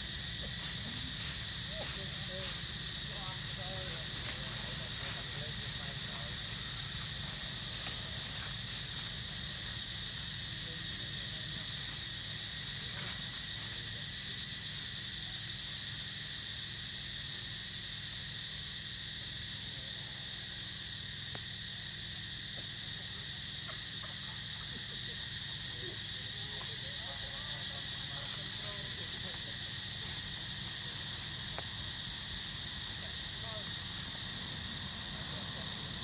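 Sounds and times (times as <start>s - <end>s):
insects droning in trees: 0.0s - 36.0s.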